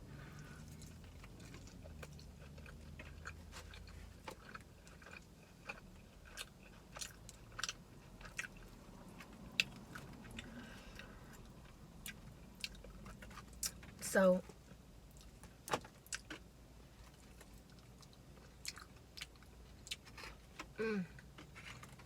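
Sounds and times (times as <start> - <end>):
person chewing food: 0.2 - 13.9, 15.0 - 22.0.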